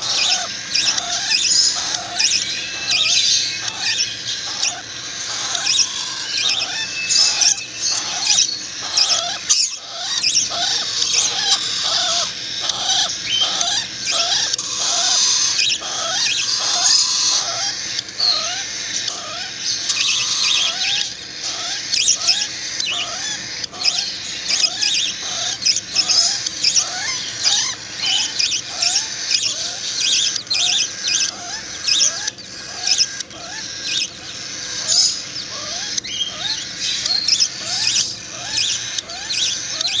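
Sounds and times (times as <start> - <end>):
nestlings cheeping: 0.0 - 40.0.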